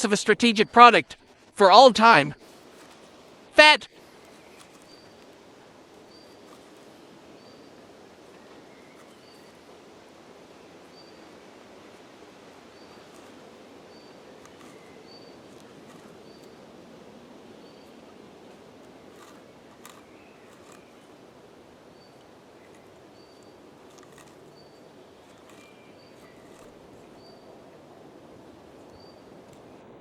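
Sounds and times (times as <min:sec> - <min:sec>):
faint outdoor hiss: 0:00.0 - 0:30.0
small bird chirping: 0:04.0 - 0:29.8.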